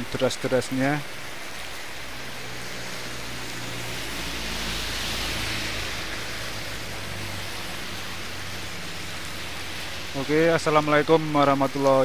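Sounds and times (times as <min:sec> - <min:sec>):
heavy rain: 0:00.0 - 0:12.0
tyres hissing on wet road: 0:00.0 - 0:12.0
vehicle engines humming: 0:00.8 - 0:12.0.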